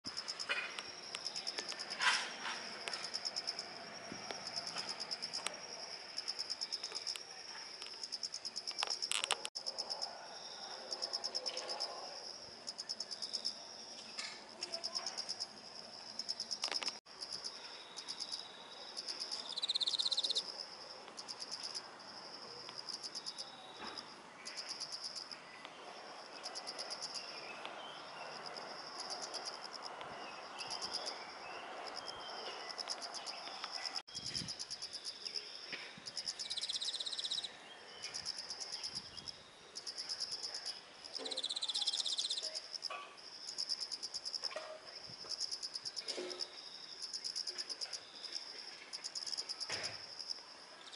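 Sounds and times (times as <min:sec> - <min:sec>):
cricket trilling: 0:00.1 - 0:50.9
louder lower cricket chirp: 0:00.1 - 0:50.9.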